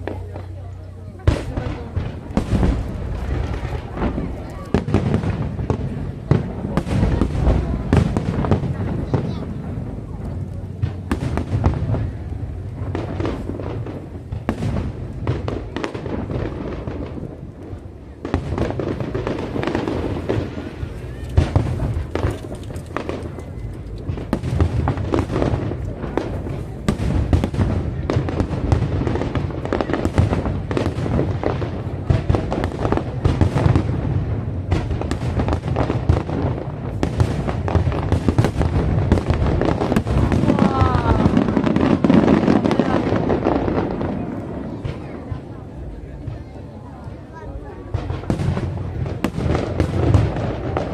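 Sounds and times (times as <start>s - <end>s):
fireworks bangs and crackles: 0.0s - 50.9s
low rumble of booms: 0.0s - 50.9s.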